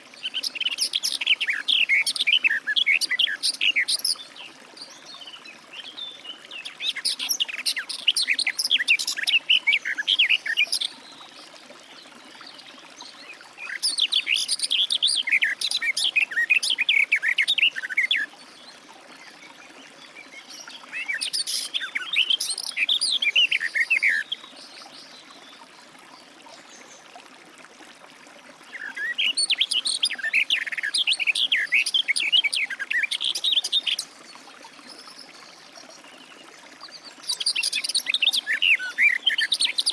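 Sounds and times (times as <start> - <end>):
garden warbler singing: 0.0 - 11.4, 12.0 - 25.6, 28.7 - 39.9.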